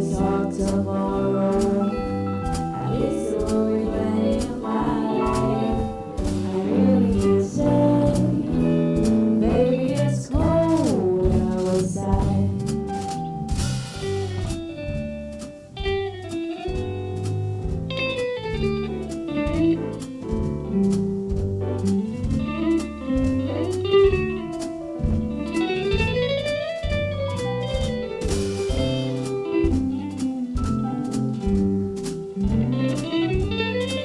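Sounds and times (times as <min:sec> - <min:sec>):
drums: 0:00.0 - 0:34.0
guitar solo with sliding notes: 0:00.0 - 0:34.0
walking bass: 0:00.0 - 0:34.0.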